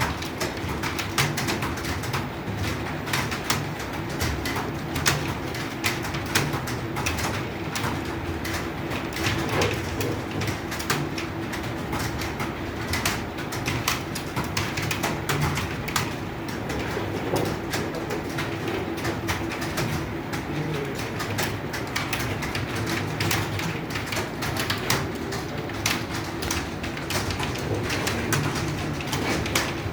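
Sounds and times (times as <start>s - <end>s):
keyboard keys clicking: 3.1s - 29.9s.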